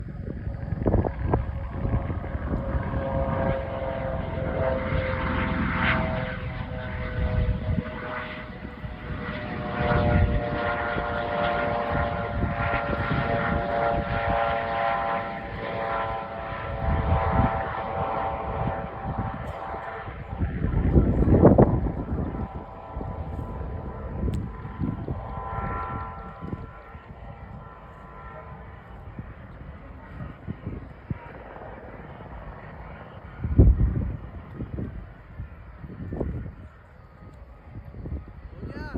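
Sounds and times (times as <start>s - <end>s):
helicopter low rumble: 0.0s - 38.9s
helicopter whine: 0.0s - 38.9s.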